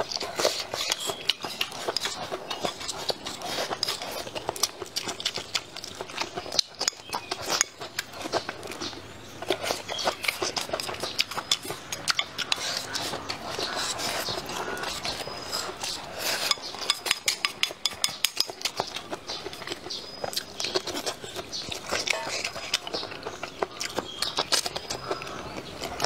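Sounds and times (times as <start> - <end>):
wet chewing mouth sounds: 0.0 - 26.0.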